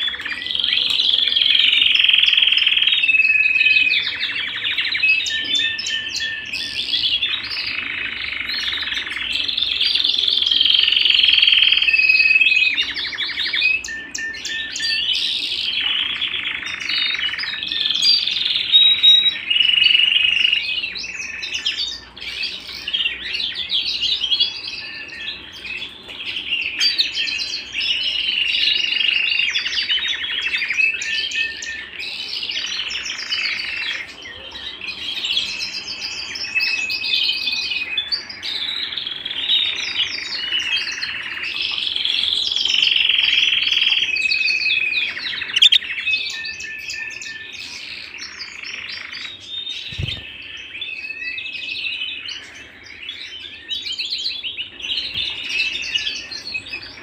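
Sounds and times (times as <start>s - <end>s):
canaries singing: 0.0s - 57.0s.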